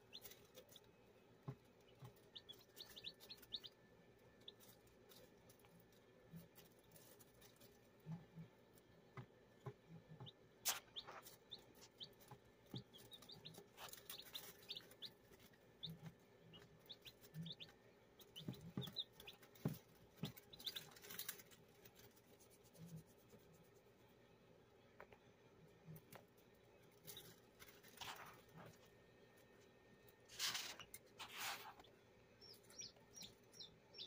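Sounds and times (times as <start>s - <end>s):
chicks peeping: 0.0s - 23.5s, 25.0s - 34.0s.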